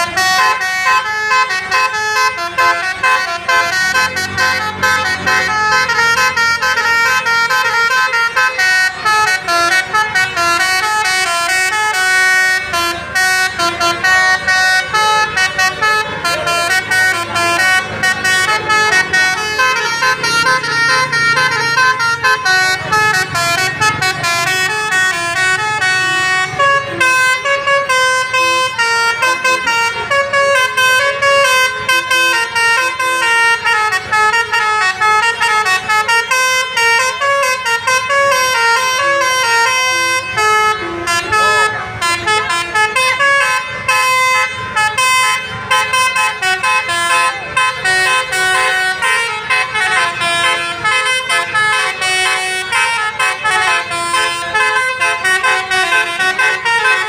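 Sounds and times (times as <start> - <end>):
multi-trumpet bus horn tune: 0.0 - 57.0.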